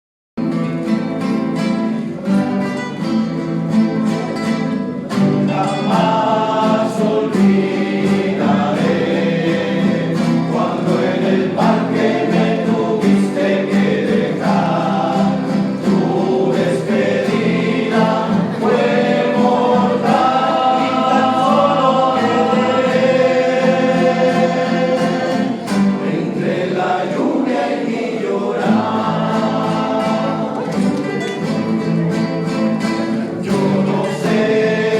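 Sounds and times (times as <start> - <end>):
plucked and strummed guitars: 0.4 - 34.9
voices singing in harmony: 5.0 - 34.9.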